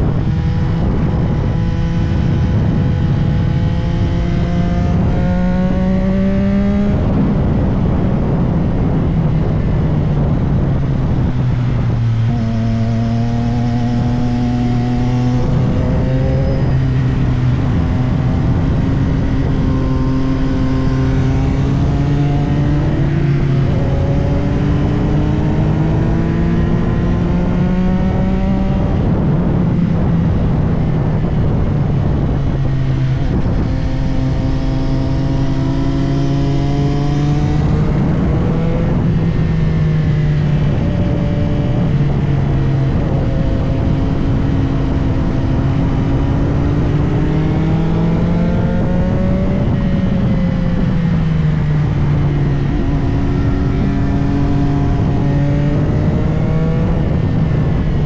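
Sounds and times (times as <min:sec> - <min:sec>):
heavy wind rush: 0:00.0 - 0:58.0
motorcycle engine accelerating: 0:00.0 - 0:58.0.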